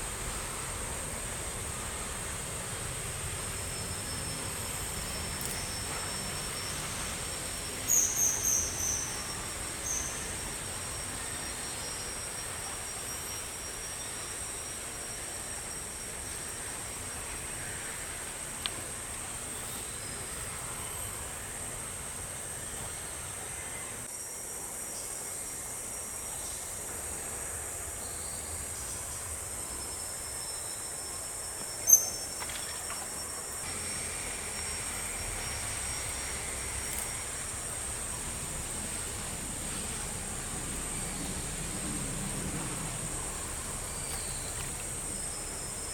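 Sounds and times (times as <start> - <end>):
insect drone: 0.0 - 45.9
outdoor ambience hiss: 0.0 - 45.9.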